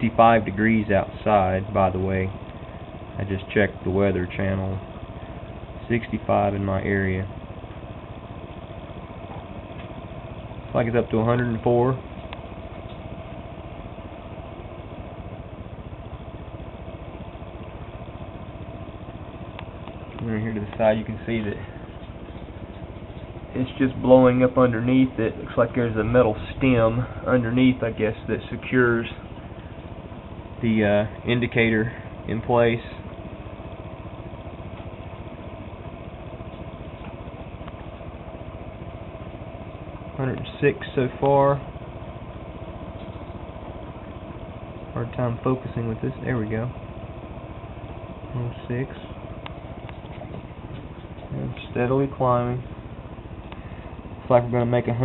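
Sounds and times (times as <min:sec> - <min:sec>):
fan whirring: 0:00.0 - 0:55.0.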